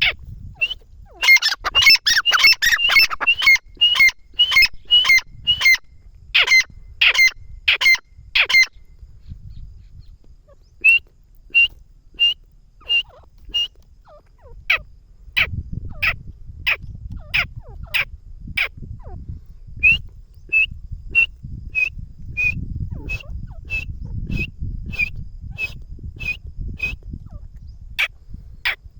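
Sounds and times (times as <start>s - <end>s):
francolin calling: 0.0s - 28.9s.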